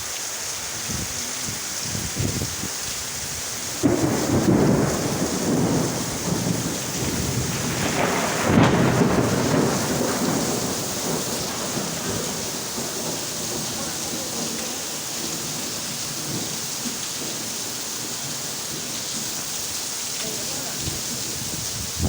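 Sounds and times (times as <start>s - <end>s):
rain falling: 0.0s - 22.0s
thunder rumbling: 1.9s - 22.0s.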